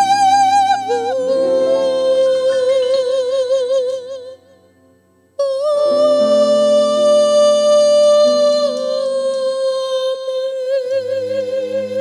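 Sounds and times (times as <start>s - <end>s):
woman singing with vibrato: 0.0s - 4.6s, 5.4s - 12.0s.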